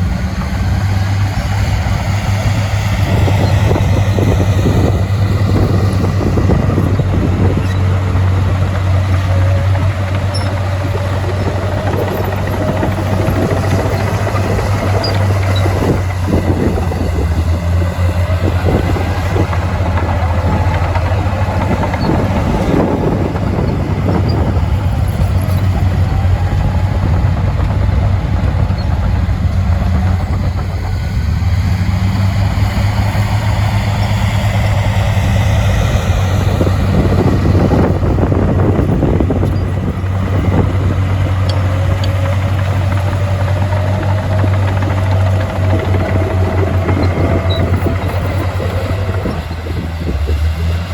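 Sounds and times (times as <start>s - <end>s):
heavy diesel machinery engine drone: 0.0s - 50.9s.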